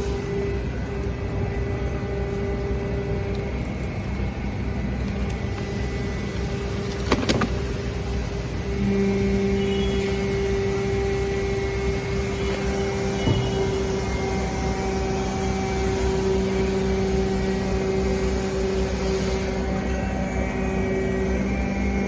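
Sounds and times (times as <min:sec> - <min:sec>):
baler motor and pump hum: 0:00.0 - 0:22.0.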